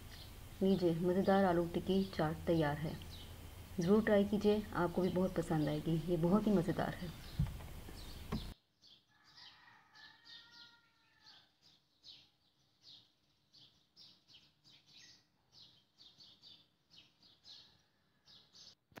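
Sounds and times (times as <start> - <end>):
birds chirping: 0.0 - 10.8, 11.4 - 18.8.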